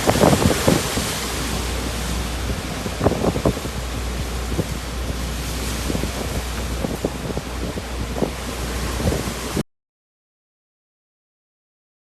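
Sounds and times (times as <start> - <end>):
strong wind buffeting microphone: 0.0 - 9.6.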